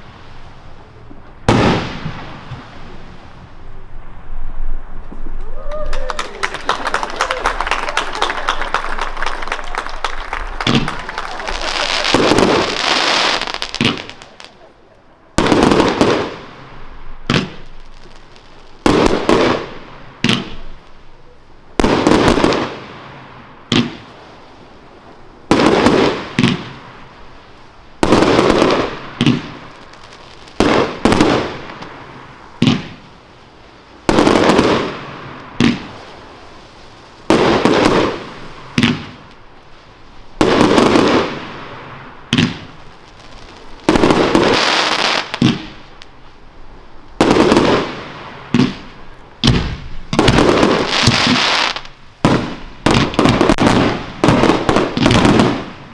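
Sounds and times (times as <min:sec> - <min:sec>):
fireworks bursting with sharp bangs: 0:00.0 - 0:55.9.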